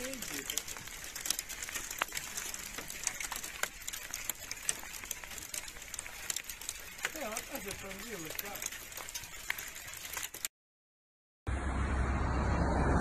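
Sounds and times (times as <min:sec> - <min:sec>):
ash pattering on a car roof: 0:00.0 - 0:10.5.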